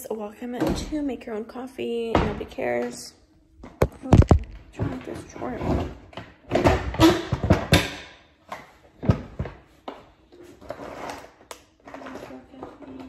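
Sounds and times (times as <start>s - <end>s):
clatter and rustling of items: 2.0s - 13.0s.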